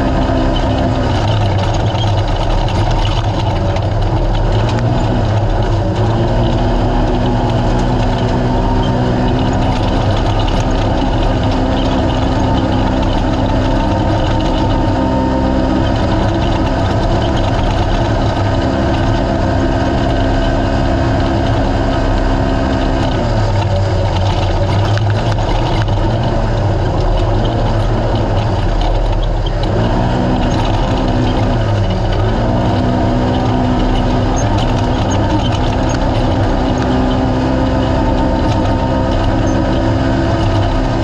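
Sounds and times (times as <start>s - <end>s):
engine running hard: 0.0s - 41.0s.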